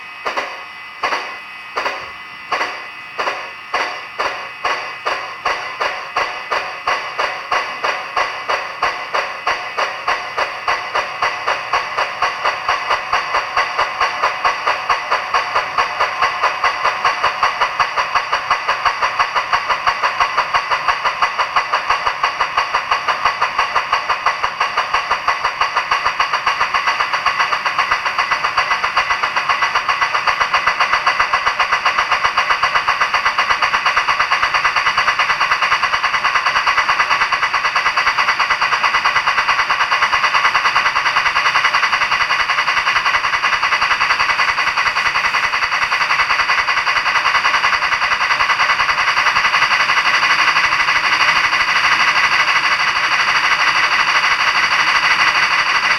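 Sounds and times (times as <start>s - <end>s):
model locomotive exhaust chuffs: 0.0s - 55.9s.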